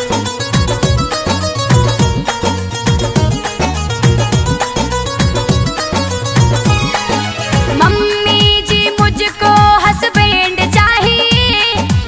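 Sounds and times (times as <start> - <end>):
heavy bass drum beat: 0.0 - 12.0.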